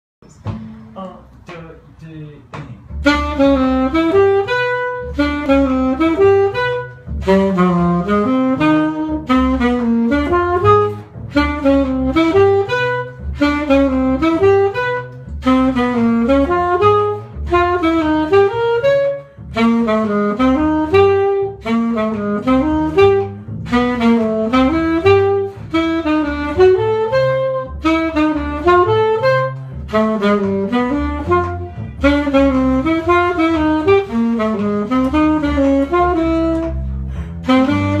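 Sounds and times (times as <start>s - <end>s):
low accompaniment: 0.2s - 38.0s
jazz arpeggio runs: 2.8s - 38.0s.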